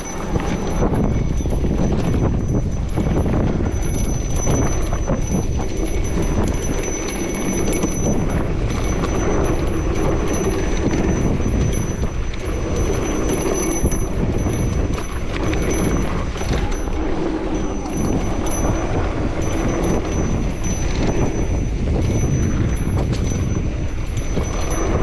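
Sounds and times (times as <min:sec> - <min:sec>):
bike rattling and knocking: 0:00.0 - 0:25.0
bike tyres on dirt trail: 0:00.0 - 0:25.0.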